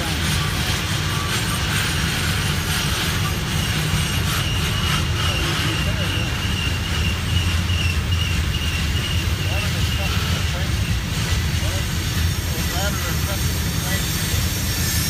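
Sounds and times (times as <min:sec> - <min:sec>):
train wheels rumbling on rail: 0:00.0 - 0:15.0
wheel flanges squealing: 0:00.0 - 0:15.0.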